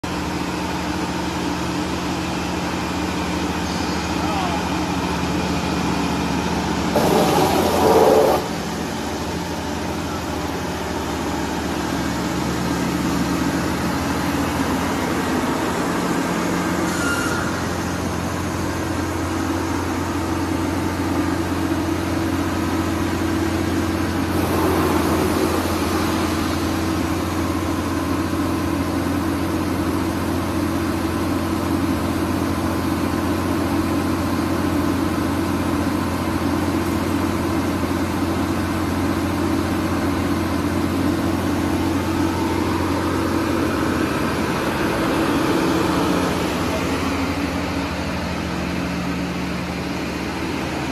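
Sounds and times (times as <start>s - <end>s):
wood chipper engine drone: 0.0s - 50.9s.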